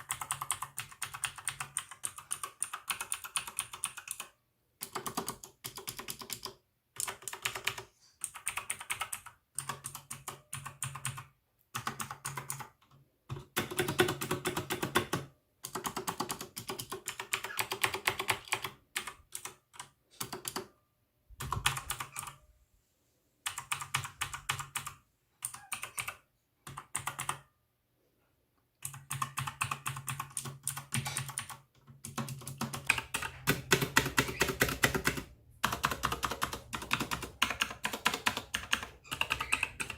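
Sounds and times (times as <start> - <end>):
mechanical keyboard typing: 0.0 - 20.7, 21.4 - 22.4, 23.4 - 27.5, 28.8 - 39.9.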